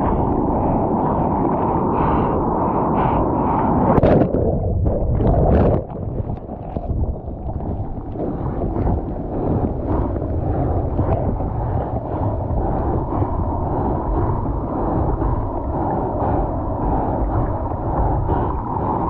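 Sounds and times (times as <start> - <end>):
low rumble: 0.0 - 19.0
seawater rushing and sloshing: 0.0 - 19.0.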